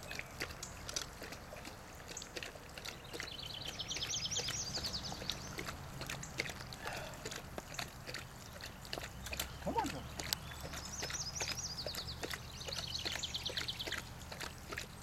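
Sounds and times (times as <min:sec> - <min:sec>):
dog lapping water: 0:00.0 - 0:15.0.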